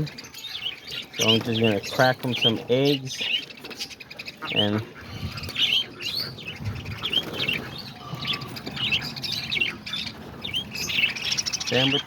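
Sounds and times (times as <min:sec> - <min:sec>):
parakeets chirping: 0:00.0 - 0:12.0.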